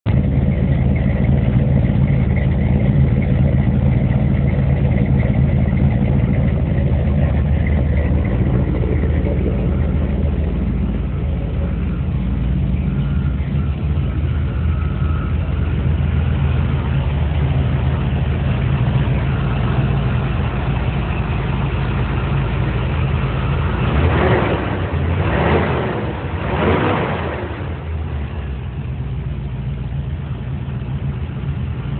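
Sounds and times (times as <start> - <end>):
car engine idling with surges: 0.0 - 31.9.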